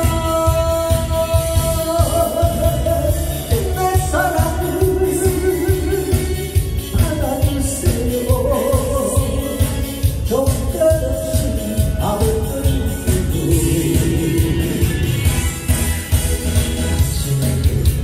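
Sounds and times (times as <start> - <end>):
man singing into microphone: 0.0 - 15.4, 17.0 - 18.0
backing track with steady beat: 0.0 - 18.0.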